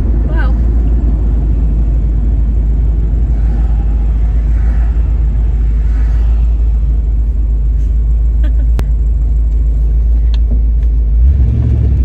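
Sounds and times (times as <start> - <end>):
car engine and exhaust rumble: 0.0 - 12.0
road noise inside car: 0.0 - 12.0.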